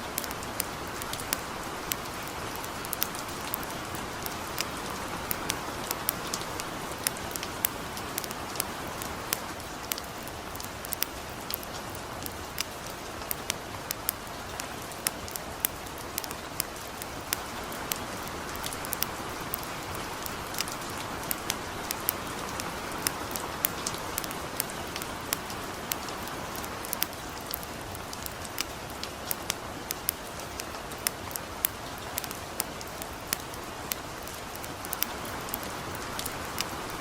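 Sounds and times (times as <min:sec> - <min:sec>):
campfire crackling and popping: 0:00.0 - 0:37.0
light rain: 0:00.0 - 0:37.0.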